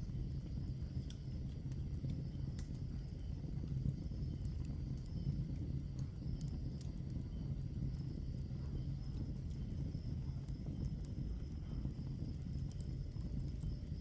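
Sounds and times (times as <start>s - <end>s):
fire crackles and pops: 0.0s - 14.0s
log fire rumbling: 0.0s - 14.0s.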